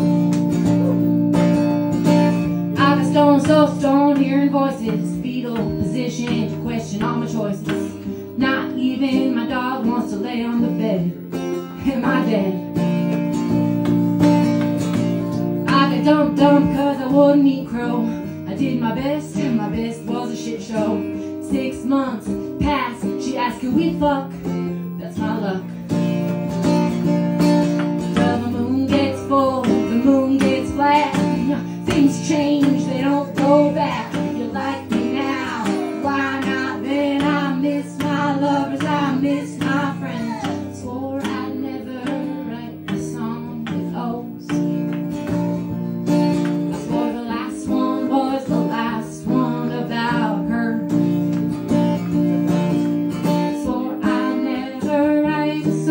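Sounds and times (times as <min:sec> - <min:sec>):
strummed acoustic guitar: 0:00.0 - 0:55.9
woman singing: 0:02.3 - 0:13.8, 0:15.4 - 0:26.7, 0:27.7 - 0:45.0, 0:46.6 - 0:51.4, 0:53.2 - 0:55.9.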